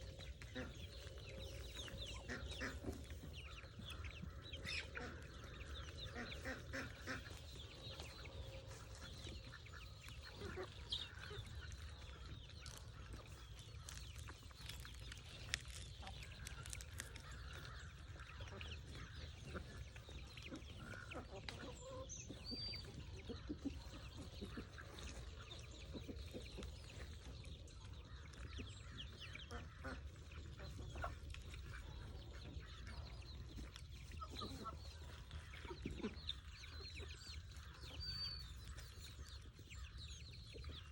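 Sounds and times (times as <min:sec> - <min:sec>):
chickens clucking: 0:00.0 - 0:40.9
small ticks and clicks: 0:00.0 - 0:40.9.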